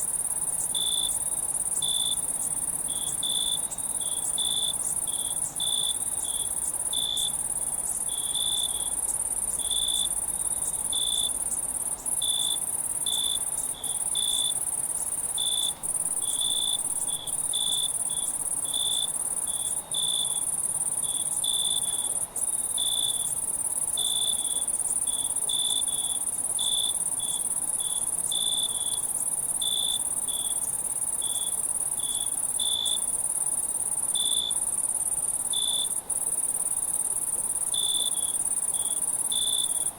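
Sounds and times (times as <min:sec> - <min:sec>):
crickets chirping: 0:00.0 - 0:39.9
high-pitched insect trill: 0:00.0 - 0:39.9.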